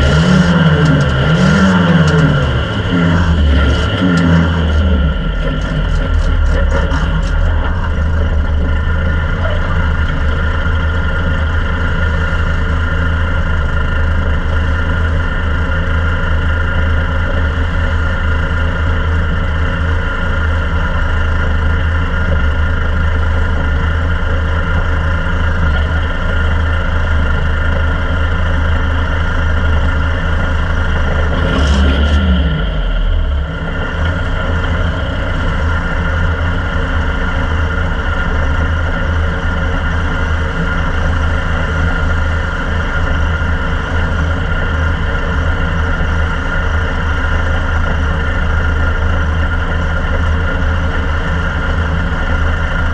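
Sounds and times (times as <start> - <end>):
race car engine idling: 0.0 - 52.9.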